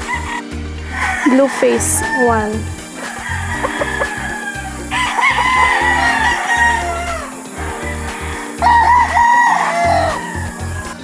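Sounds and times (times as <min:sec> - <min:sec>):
rooster crowing: 0:00.0 - 0:11.0.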